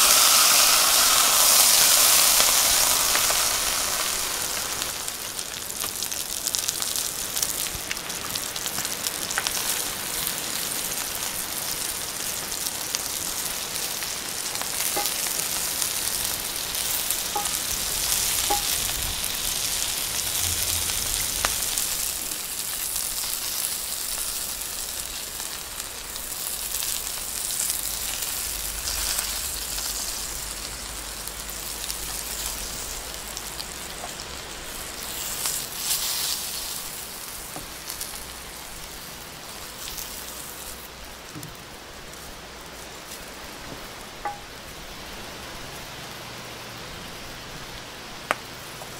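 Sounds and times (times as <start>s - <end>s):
vegetables sizzling in a pan: 0.0s - 48.9s.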